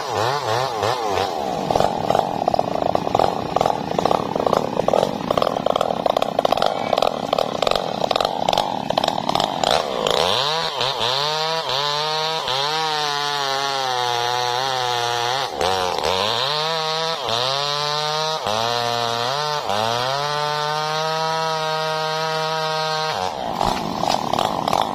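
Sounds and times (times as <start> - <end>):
chainsaw cutting wood: 0.0 - 24.9
chainsaw revving: 0.0 - 24.9.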